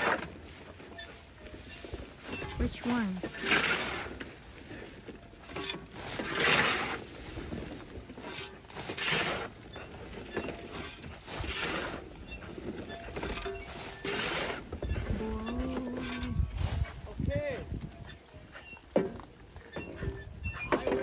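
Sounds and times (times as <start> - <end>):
pigs grunting and snuffling: 0.0 - 17.0.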